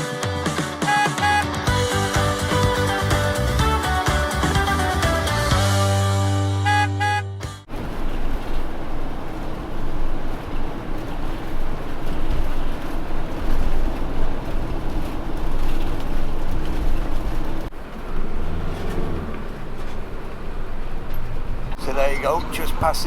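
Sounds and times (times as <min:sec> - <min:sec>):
motorhome engine and tyre noise: 0:00.0 - 0:23.0.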